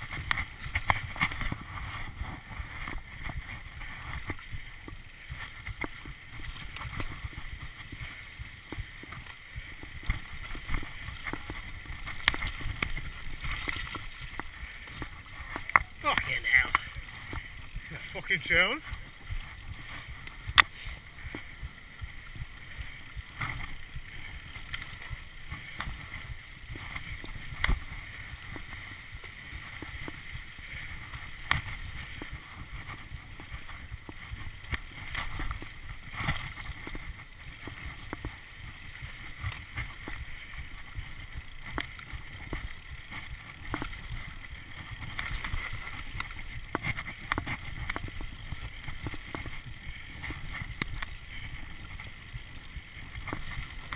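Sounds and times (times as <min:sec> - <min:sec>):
bike knocking and rattling: 0:00.0 - 0:53.9
bike tyres rumbling on dirt: 0:00.0 - 0:53.9.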